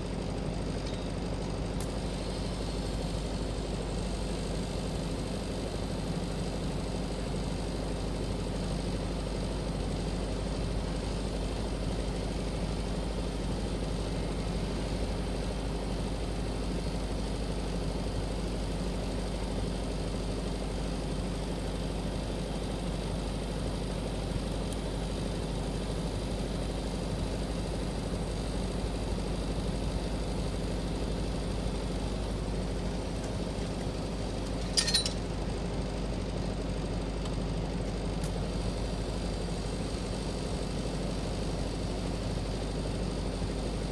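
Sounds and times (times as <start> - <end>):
arc welding buzz and hiss: 1.7 - 34.9, 36.5 - 43.9.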